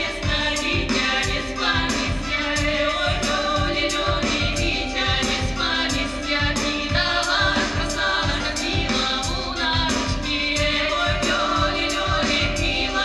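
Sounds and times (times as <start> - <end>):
female vocal trio singing: 0.0 - 13.0
keyboard with steady beat: 0.0 - 13.0.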